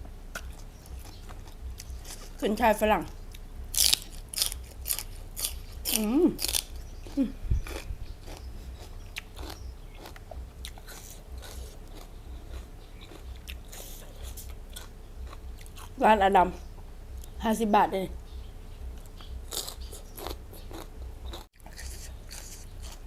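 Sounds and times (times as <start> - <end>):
person chewing crunchy celery: 0.3 - 2.4, 3.1 - 16.0, 19.0 - 23.0.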